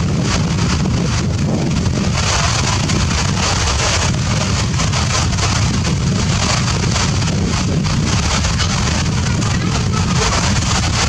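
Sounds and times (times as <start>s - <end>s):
constant low rumble: 0.0s - 11.0s
rain hissing: 0.0s - 11.0s.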